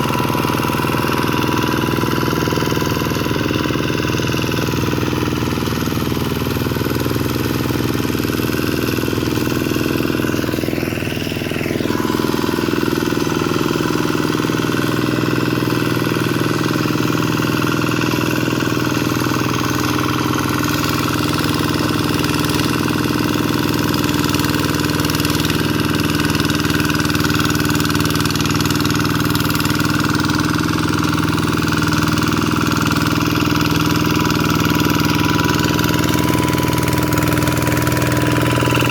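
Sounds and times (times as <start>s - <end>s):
single-cylinder diesel engine running: 0.0s - 38.9s.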